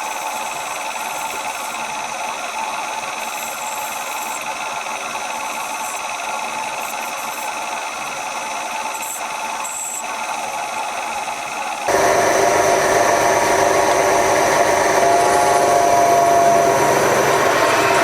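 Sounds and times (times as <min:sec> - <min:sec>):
machine tool humming and whining: 0:00.0 - 0:18.0.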